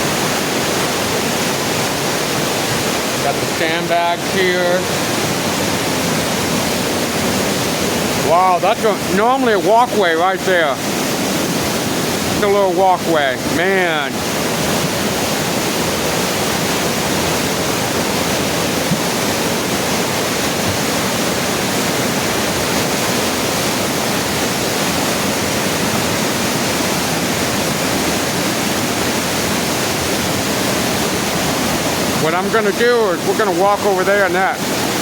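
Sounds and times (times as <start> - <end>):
floodwater roaring: 0.0 - 35.0.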